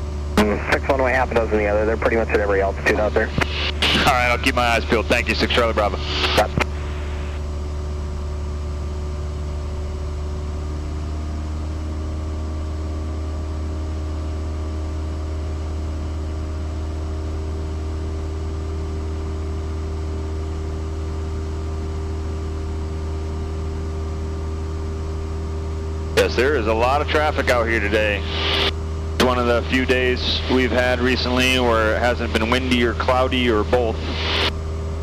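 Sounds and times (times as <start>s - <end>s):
small plane engine and propeller drone: 0.0s - 35.0s.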